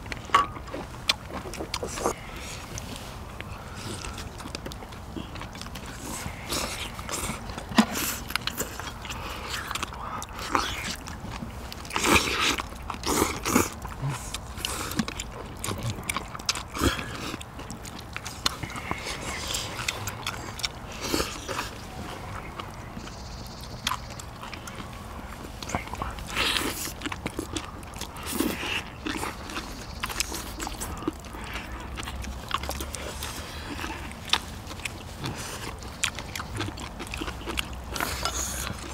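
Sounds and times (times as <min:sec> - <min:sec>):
people chewing food: 0:00.0 - 0:38.9.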